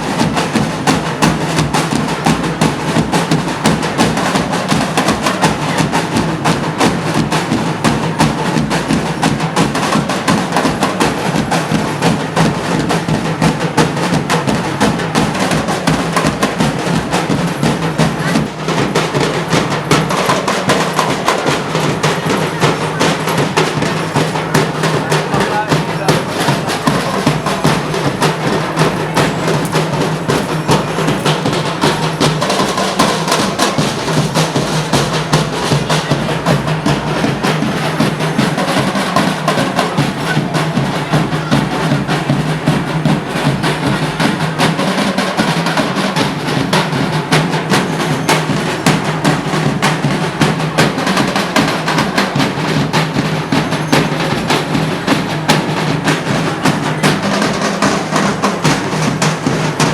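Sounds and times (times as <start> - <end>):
percussion music drumming: 0.0 - 59.9.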